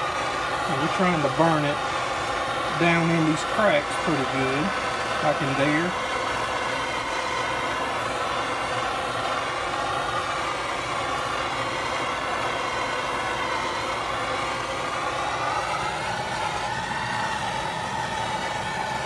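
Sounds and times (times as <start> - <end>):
propane torch hissing: 0.0 - 19.0.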